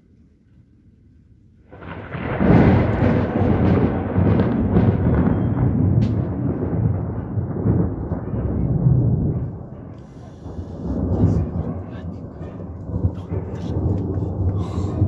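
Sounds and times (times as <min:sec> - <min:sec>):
thunder rumbling: 0:01.6 - 0:15.0.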